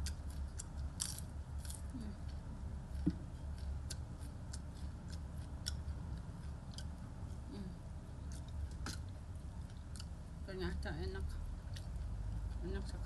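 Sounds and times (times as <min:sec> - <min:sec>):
chewing crisp crackers: 0:00.0 - 0:07.0, 0:08.2 - 0:10.2, 0:11.5 - 0:13.0.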